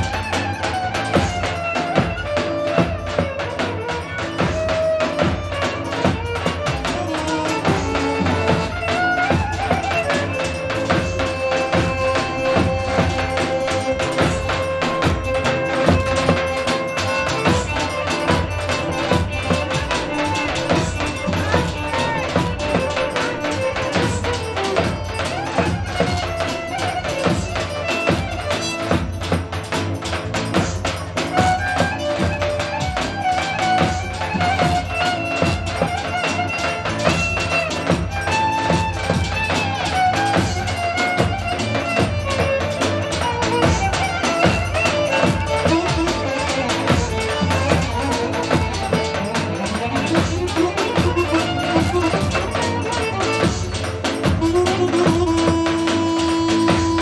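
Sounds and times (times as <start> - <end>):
drum and tambourine beats: 0.0 - 57.0
lively dance music: 0.0 - 57.0
melody with long held notes: 0.0 - 57.0.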